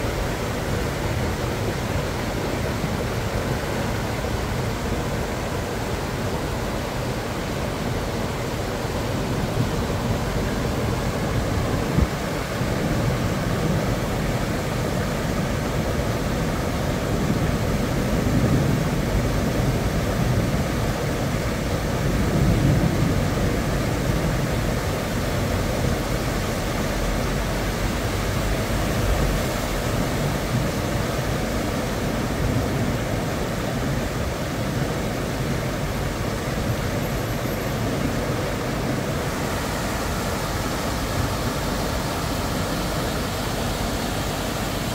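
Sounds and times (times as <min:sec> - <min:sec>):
floodwater rushing: 0:00.0 - 0:44.9
vehicles splashing through water: 0:00.0 - 0:44.9.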